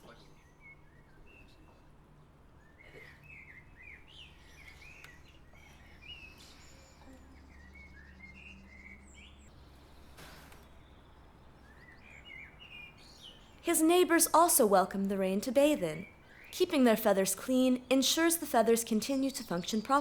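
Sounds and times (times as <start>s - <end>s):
songbirds chirping and singing: 2.7s - 10.0s, 10.9s - 20.0s.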